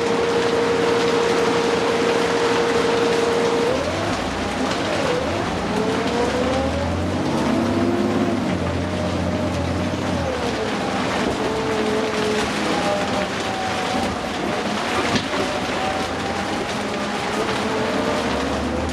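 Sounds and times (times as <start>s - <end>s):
bus engine humming: 0.0s - 18.9s
drivetrain whine: 0.0s - 18.9s.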